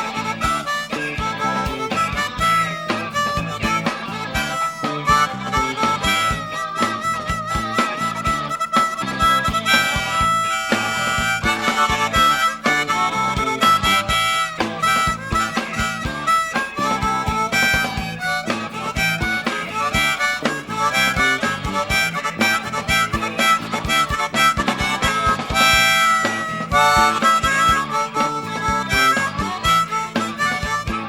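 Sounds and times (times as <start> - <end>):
guitar: 0.0 - 31.0
harmonica lead: 0.0 - 31.0
steady drum beat: 0.0 - 31.0.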